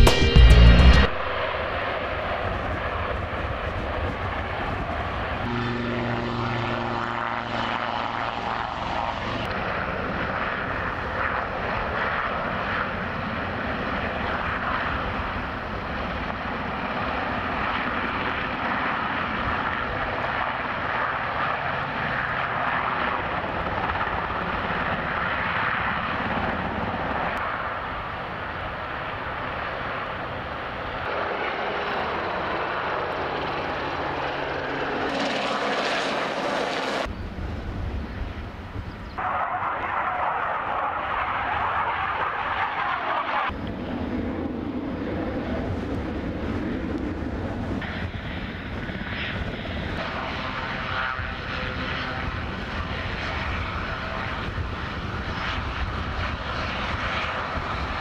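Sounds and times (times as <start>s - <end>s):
helicopter turbine and rotor noise: 0.0s - 58.0s.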